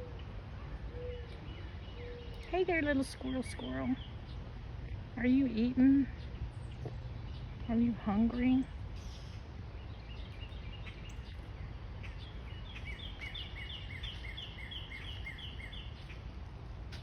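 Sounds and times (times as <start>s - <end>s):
low outdoor rumble: 0.0s - 17.0s
songbird singing: 0.0s - 17.0s.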